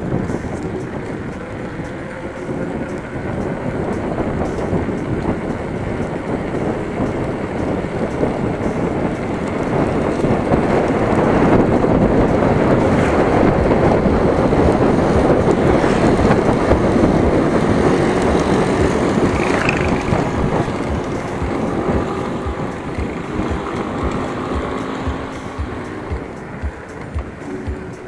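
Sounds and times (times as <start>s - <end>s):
bicycle rumbling over rough track: 0.0s - 28.0s
wind buffeting microphone: 0.0s - 28.0s.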